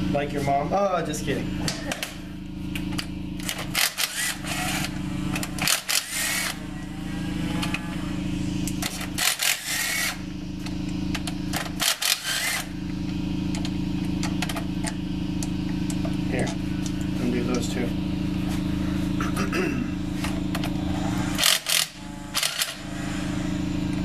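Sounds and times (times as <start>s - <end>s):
machine motor humming: 1.3s - 24.0s.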